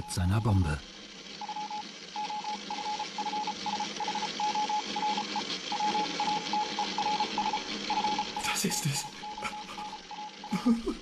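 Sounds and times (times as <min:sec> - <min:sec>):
radio hiss: 0:00.0 - 0:05.2, 0:05.8 - 0:10.7
morse code beeps: 0:01.4 - 0:10.7.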